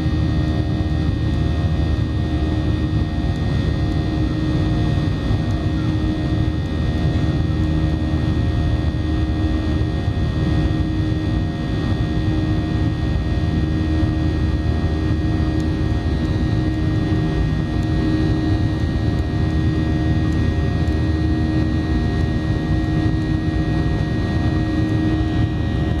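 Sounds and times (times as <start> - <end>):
jet engines droning in cabin: 0.0 - 26.0.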